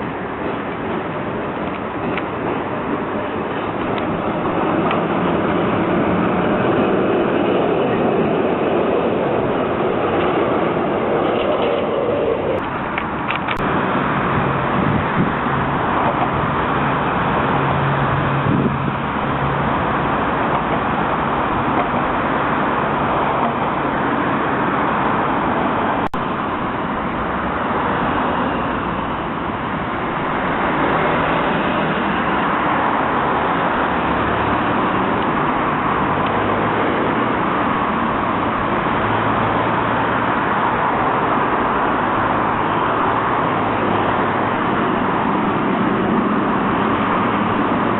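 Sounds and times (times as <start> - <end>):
cars running past: 0.0 - 47.9
trams running past: 0.0 - 47.9.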